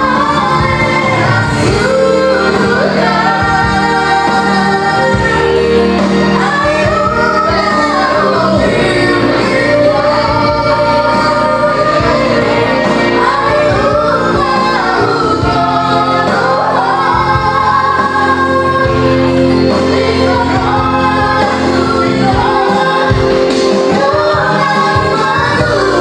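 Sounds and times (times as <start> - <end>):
electronic keyboard: 0.0 - 26.0
woman singing: 0.0 - 26.0.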